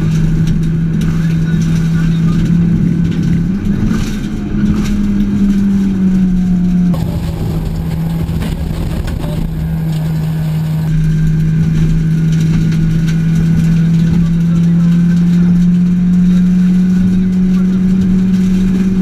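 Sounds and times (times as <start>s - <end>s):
rally car engine at high revs: 0.0s - 19.0s
tyre and road noise: 0.0s - 19.0s.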